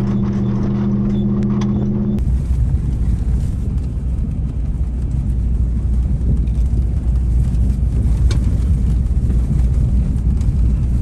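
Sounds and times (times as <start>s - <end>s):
engine tyres and wind rumble: 0.0s - 11.0s.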